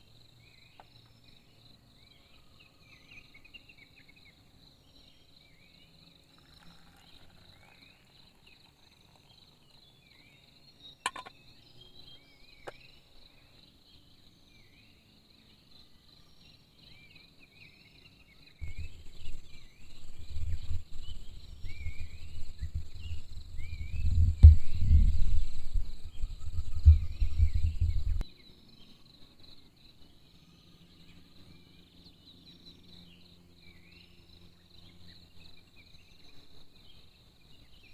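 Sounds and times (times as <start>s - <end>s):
insect chirps: 0.0s - 37.9s
insects droning: 0.0s - 37.9s.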